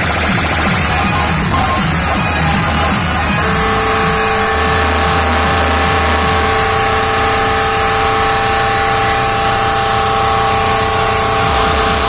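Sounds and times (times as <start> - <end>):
loud distorted held tone: 0.0 - 12.0
pulsing bass beat: 0.0 - 12.0.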